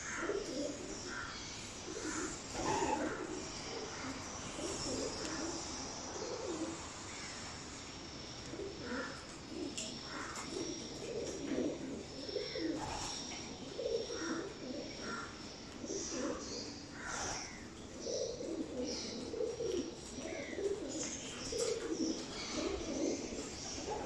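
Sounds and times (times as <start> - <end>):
pigeons cooing: 0.0 - 7.4, 8.4 - 24.0.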